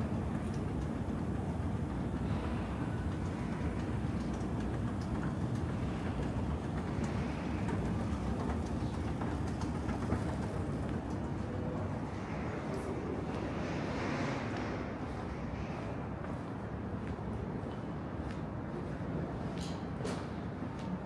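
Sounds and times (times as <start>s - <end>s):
train rumbling past: 0.0s - 20.7s.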